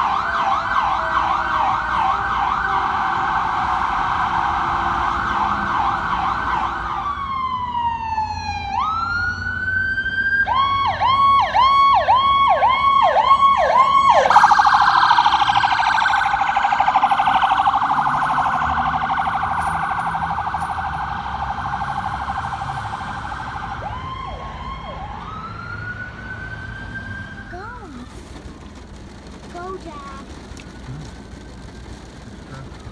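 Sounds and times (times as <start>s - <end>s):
second ambulance siren yelping: 0.0s - 28.1s
ambulance siren: 0.0s - 29.4s, 30.2s - 32.9s.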